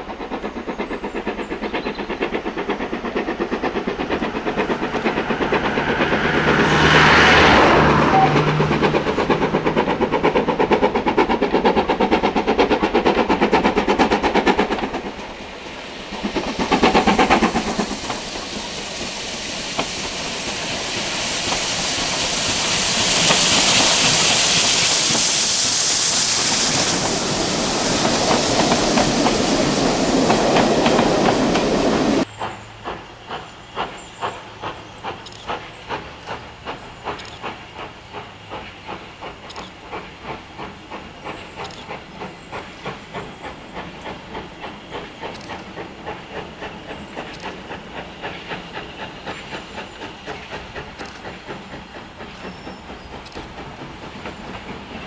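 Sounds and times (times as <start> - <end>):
loud hiss of steam: 0.0 - 55.0
steam train rhythmic beats: 0.0 - 55.0.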